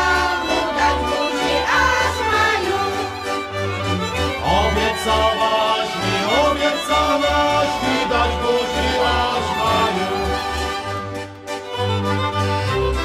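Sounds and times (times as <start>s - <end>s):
accordion: 0.0s - 13.0s
fiddle: 0.0s - 13.0s.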